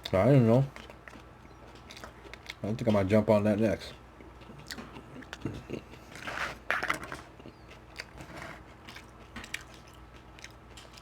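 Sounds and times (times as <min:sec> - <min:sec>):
chewing meat: 0:00.0 - 0:03.2, 0:03.8 - 0:11.0.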